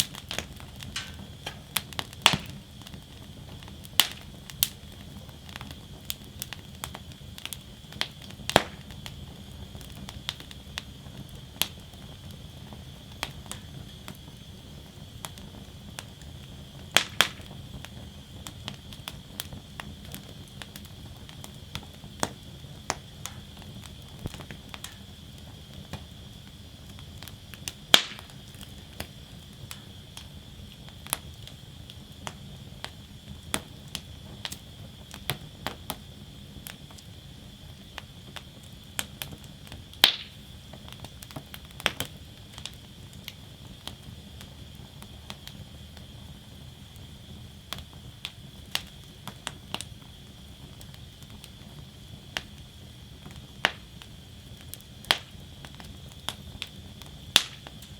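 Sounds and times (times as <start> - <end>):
fire crackling and popping: 0.0 - 57.9
wood fire rumbling: 0.0 - 57.9.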